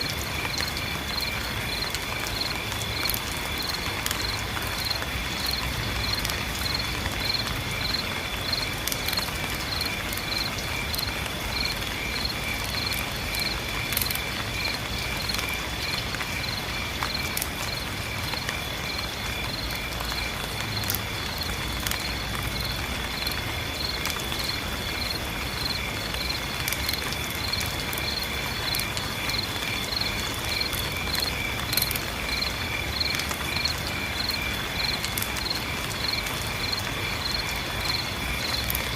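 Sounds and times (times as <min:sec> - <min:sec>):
insects chirping: 0:00.0 - 0:38.9
raindrops ticking: 0:00.0 - 0:38.9.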